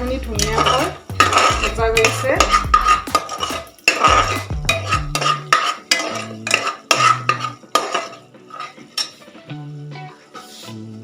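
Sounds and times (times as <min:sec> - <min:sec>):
paste frying: 0:00.0 - 0:11.0
metal spoon scraping a pot: 0:00.1 - 0:09.3
spoon clinking on pot: 0:00.4 - 0:09.2.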